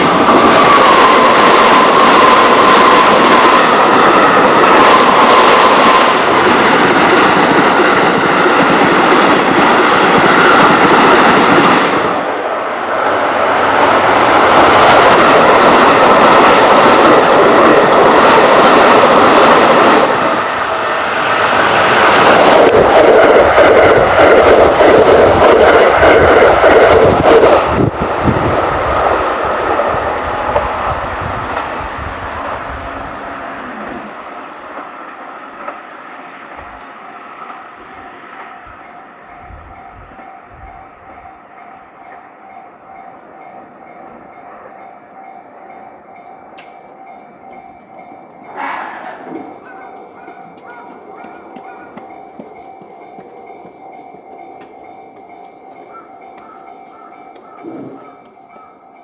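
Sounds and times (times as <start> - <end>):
train running past: 0.0 - 59.0.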